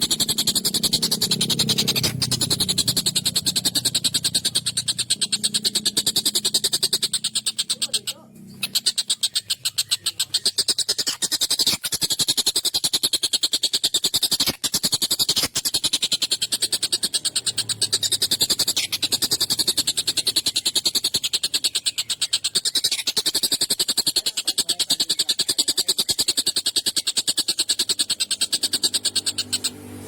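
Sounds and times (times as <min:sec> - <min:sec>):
kingfisher harsh rattling call: 0:00.0 - 0:30.0.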